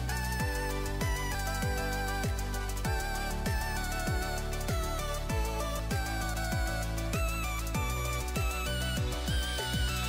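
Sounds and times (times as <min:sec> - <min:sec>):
electronic music with kick drum: 0:00.0 - 0:10.0
synth melody: 0:00.0 - 0:10.0.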